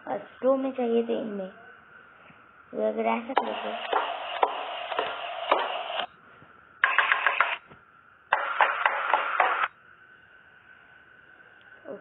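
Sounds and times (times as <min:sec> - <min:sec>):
recording hiss: 0:00.0 - 0:12.0.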